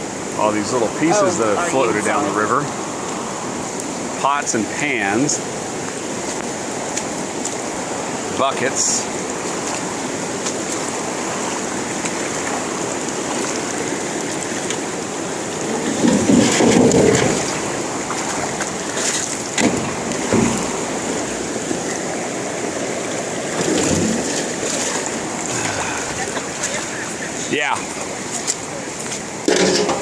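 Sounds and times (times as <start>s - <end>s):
flooded creek rushing: 0.0s - 30.0s.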